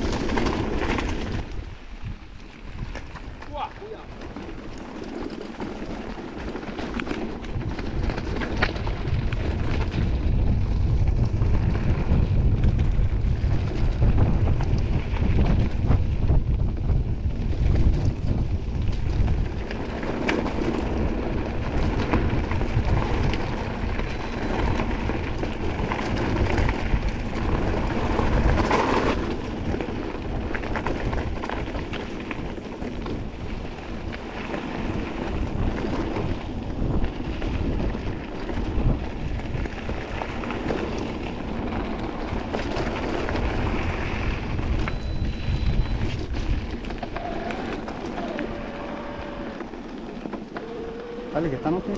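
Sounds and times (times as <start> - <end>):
bike tyres and frame rattling: 0.0 - 51.9
wind rumbling on microphone: 0.0 - 51.9.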